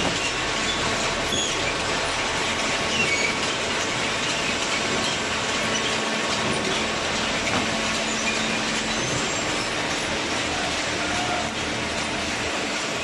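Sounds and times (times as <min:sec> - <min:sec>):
metallic squeaks and clatter: 0:00.0 - 0:13.0.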